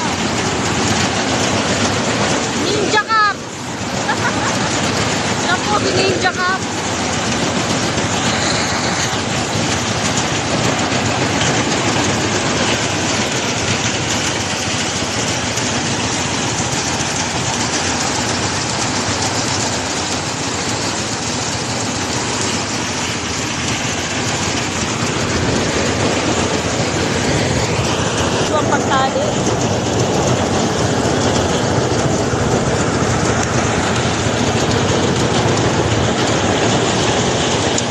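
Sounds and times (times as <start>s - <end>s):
harvester running: 0.0s - 37.9s.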